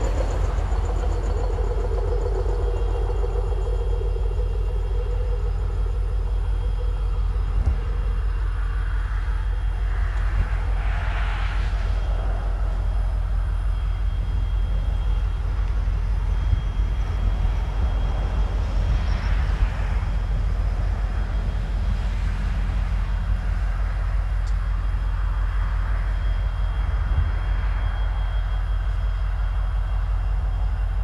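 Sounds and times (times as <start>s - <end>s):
diesel locomotives rumbling: 0.0s - 31.0s.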